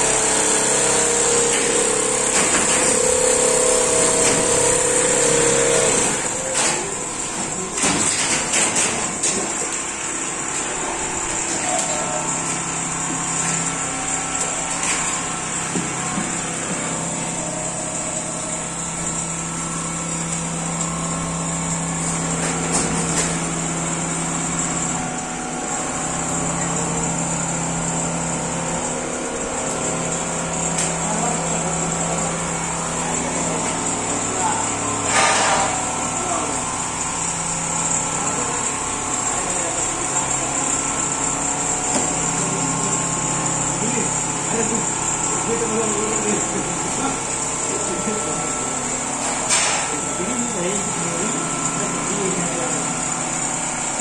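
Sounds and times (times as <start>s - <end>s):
high machine whine: 0.0s - 54.0s
quilting machine motor hum: 0.0s - 54.0s.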